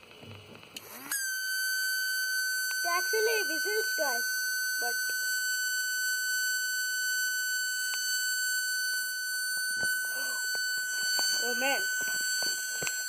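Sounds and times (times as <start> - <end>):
paper fan whistling: 0.8 - 13.0.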